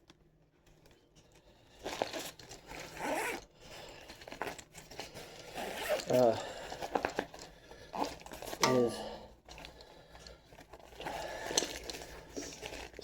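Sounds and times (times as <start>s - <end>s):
rustling fabric and plastic: 0.0s - 13.0s.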